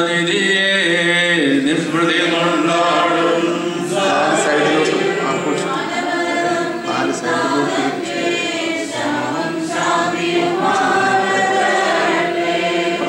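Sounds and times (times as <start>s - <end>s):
choir and congregation singing hymn: 0.0s - 13.0s.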